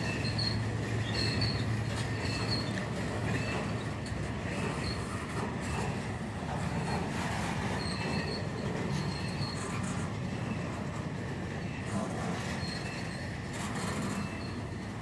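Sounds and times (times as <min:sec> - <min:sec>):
freight train rumble: 0:00.0 - 0:15.0
wheel and brake squeals: 0:00.0 - 0:15.0.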